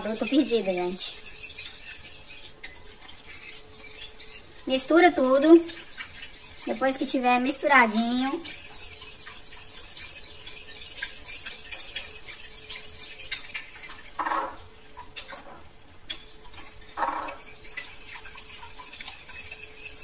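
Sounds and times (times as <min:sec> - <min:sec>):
spoon stirring foamy liquid: 0:00.0 - 0:20.0.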